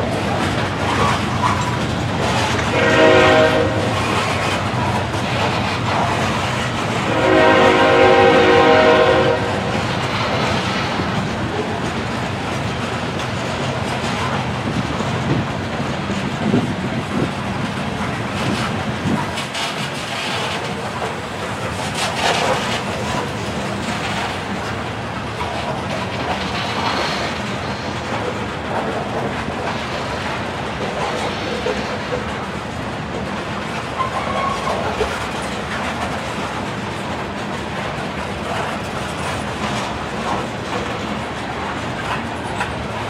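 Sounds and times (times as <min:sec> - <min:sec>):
freight train wheels clacking: 0:00.0 - 0:43.0.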